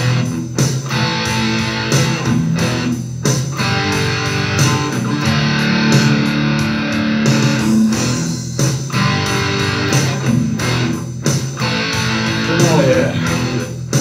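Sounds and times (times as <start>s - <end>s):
electric guitar over rock backing: 0.0s - 14.0s.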